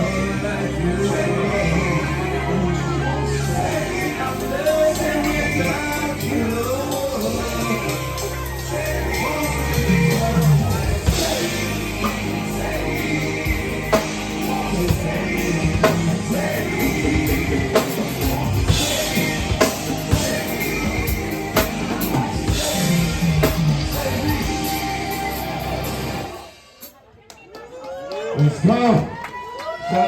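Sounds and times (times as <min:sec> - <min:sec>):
person singing: 0:00.0 - 0:26.6
loud song with drum beat: 0:00.0 - 0:27.1.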